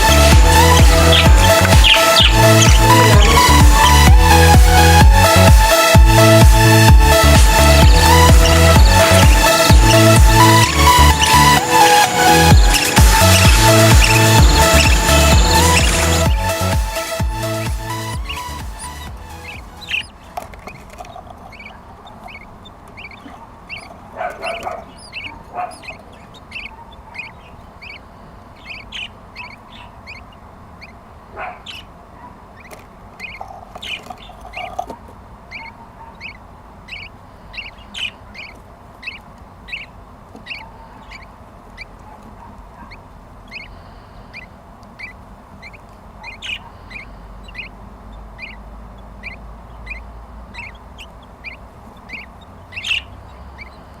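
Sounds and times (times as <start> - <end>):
budgerigars chirping: 0.0 - 54.0
louder bird calls: 0.0 - 54.0.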